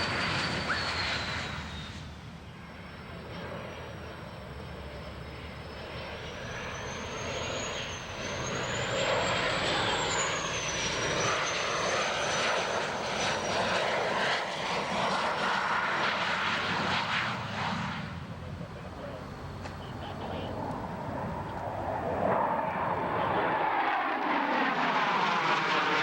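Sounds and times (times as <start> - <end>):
aircraft engines passing: 0.0 - 26.0.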